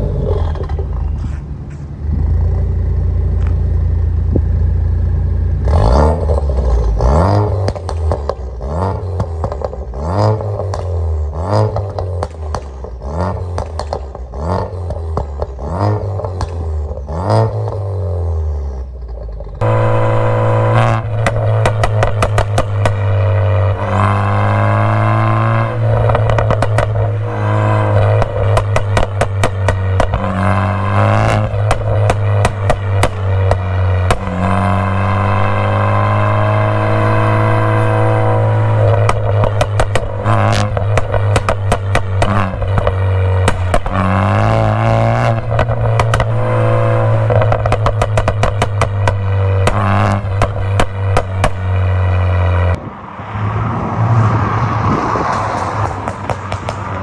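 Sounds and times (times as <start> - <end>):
exhaust crackles and pops: 0.0 - 52.8, 54.9 - 57.0
car engine revving: 0.0 - 57.0.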